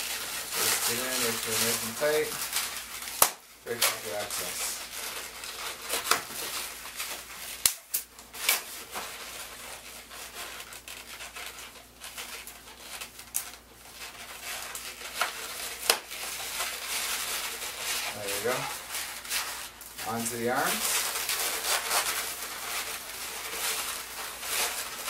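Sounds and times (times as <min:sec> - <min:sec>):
balloons squeaking: 0:00.0 - 0:07.4, 0:08.7 - 0:25.0.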